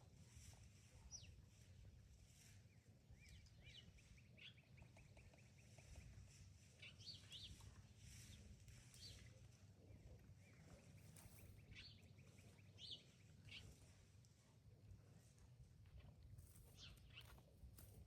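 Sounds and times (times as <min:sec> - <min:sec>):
songbirds chirping: 0:00.4 - 0:18.0.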